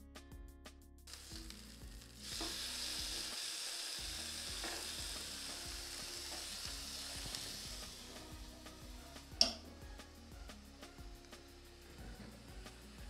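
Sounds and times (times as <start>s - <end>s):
faint background music: 0.0s - 13.0s
chicken sizzling in a pan: 1.1s - 13.0s.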